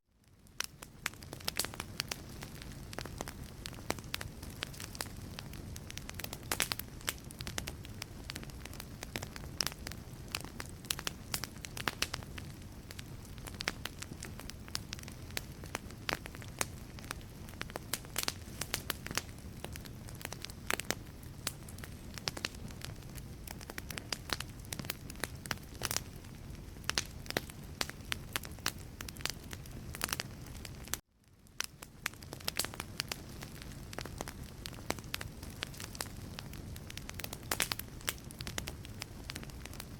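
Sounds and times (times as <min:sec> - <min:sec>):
low steady rumble of fire: 0:00.1 - 0:39.9
wood fire crackling and popping: 0:00.2 - 0:39.9.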